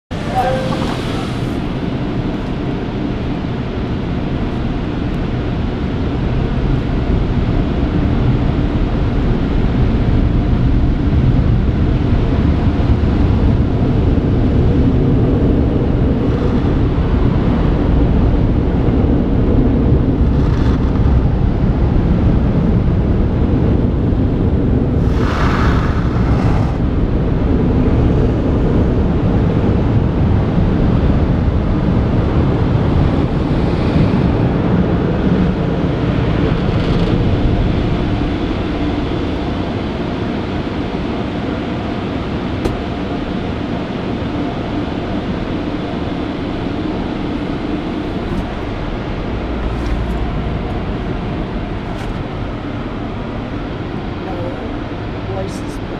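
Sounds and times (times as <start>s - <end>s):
car wash machinery rumble: 0.1s - 55.9s.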